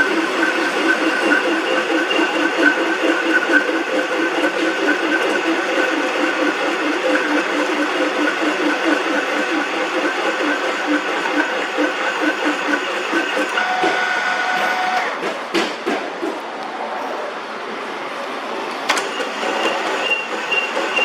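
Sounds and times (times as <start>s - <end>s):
metal lathe whining: 0.0s - 15.2s, 18.9s - 21.0s.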